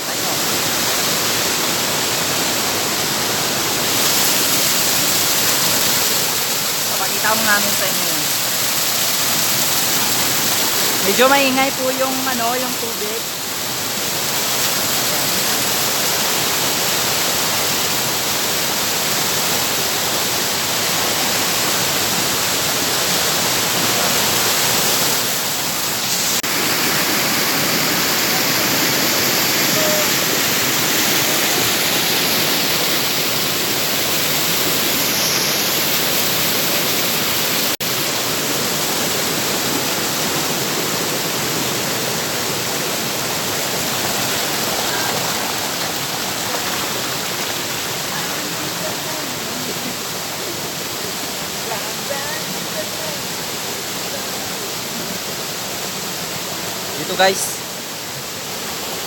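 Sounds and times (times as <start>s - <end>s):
water rushing over cascade: 0.0s - 59.0s.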